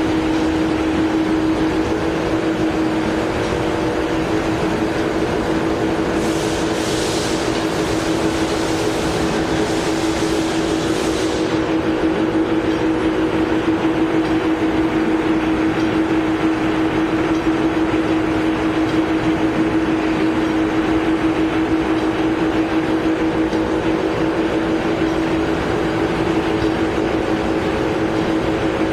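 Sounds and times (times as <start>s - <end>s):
lathe whine: 0.0s - 28.9s.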